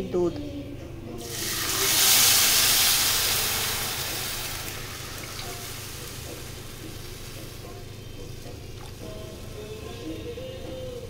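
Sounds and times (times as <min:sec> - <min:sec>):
milk hissing in hot pan: 0:01.2 - 0:11.0.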